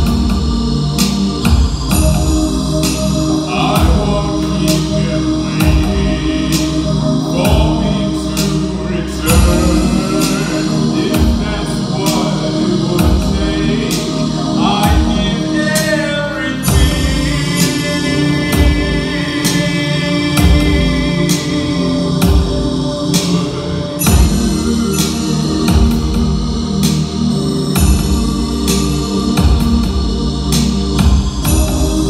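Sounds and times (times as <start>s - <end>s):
electronic beat thumps and hits: 0.0s - 6.8s, 7.4s - 8.5s, 9.2s - 14.1s, 14.7s - 15.4s, 16.7s - 17.8s, 18.4s - 19.6s, 20.3s - 21.4s, 22.1s - 23.4s, 24.0s - 32.0s
person singing: 0.0s - 32.0s.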